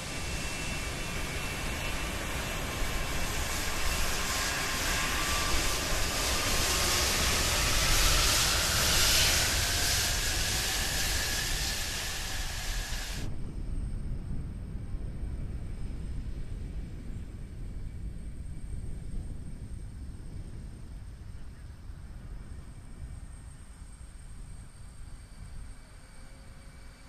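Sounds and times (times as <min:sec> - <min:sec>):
jet engine roar with whine: 0:00.0 - 0:27.0.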